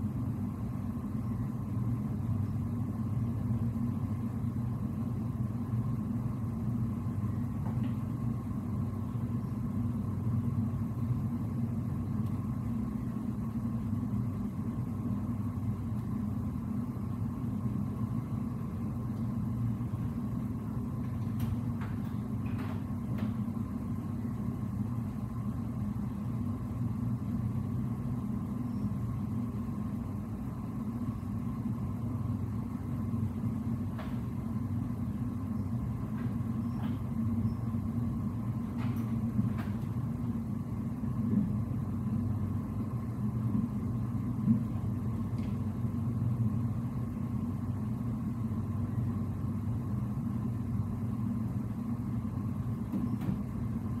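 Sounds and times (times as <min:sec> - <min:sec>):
low hum of ship machinery: 0:00.0 - 0:54.0.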